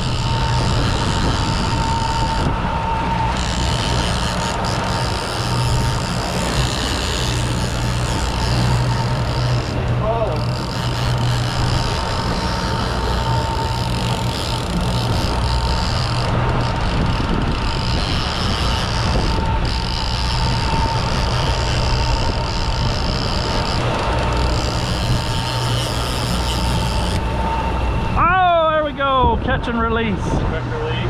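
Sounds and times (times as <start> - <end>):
boat engine humming: 0.0 - 31.0
water and wind noise: 0.0 - 31.0.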